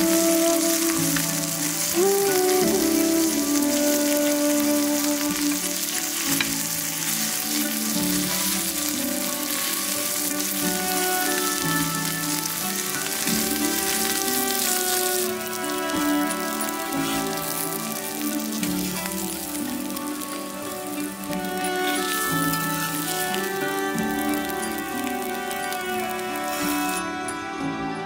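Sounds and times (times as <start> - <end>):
fish sizzling in oil: 0.0 - 27.6
soft background music: 0.0 - 28.0
spatula moving fish: 0.1 - 27.0.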